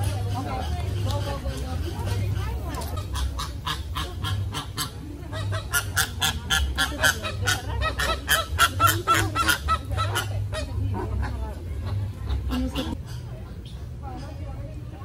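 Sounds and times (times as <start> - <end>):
flamingos honking: 0.0 - 14.6.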